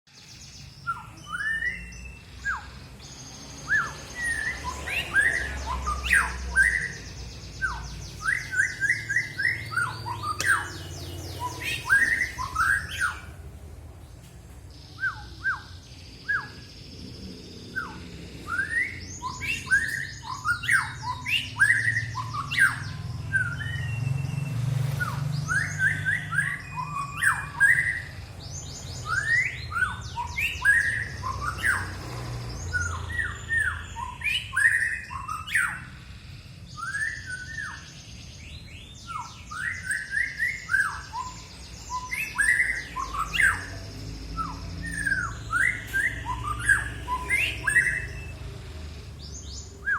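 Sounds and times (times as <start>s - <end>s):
songbird chirps and trills: 0.1s - 49.9s.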